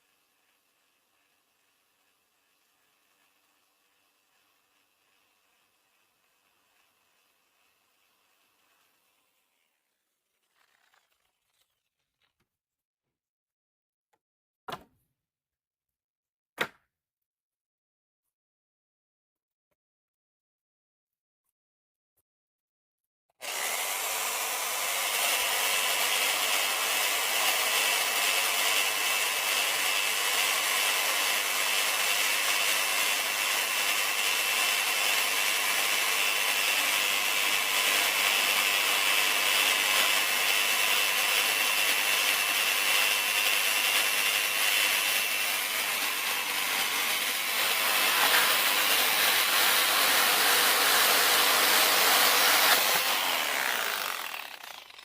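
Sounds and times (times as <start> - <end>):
reciprocating saw cutting wood: 0.0 - 12.4, 23.3 - 55.0.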